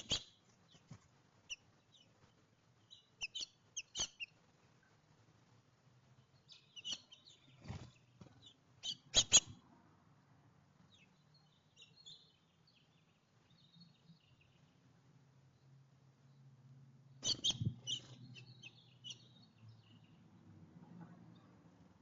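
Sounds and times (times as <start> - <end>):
small songbirds chirping: 0.0 - 5.2, 5.9 - 9.6, 10.8 - 20.6.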